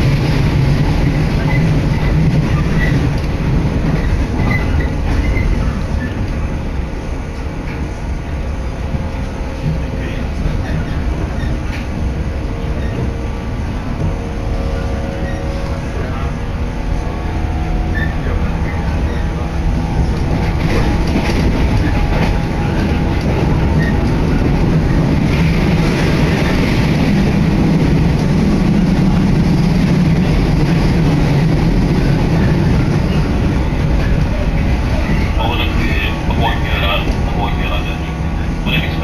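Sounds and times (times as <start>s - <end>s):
deep rumble: 0.0s - 39.0s
train wheels on rails: 0.0s - 39.0s.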